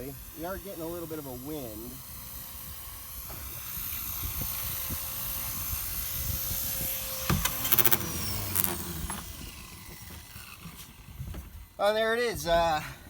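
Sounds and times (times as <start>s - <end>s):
rc helicopter rotor whining: 0.0s - 13.0s.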